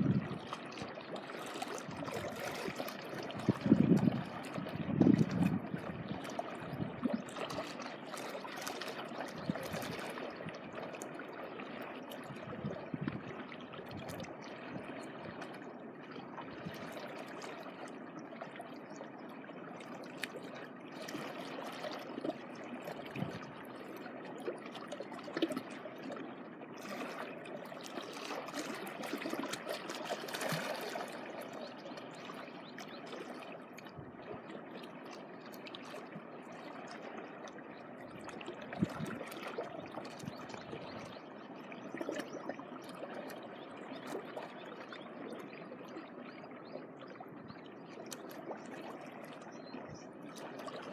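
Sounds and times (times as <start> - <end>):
small waves lapping: 0.0 - 50.9.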